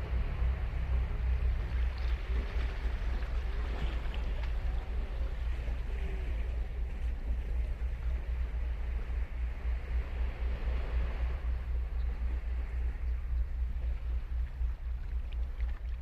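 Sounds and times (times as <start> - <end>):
ocean surf on a beach: 0.0 - 13.0
low rumble: 0.0 - 16.0.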